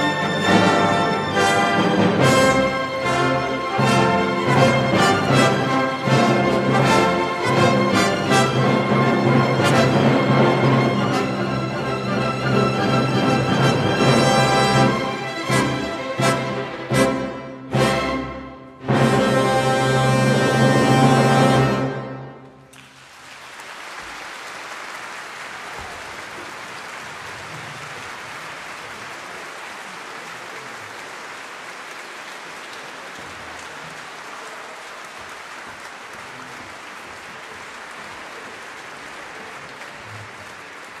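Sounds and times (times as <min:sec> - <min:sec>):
audience applauding: 0:00.0 - 0:17.0, 0:22.5 - 0:41.0.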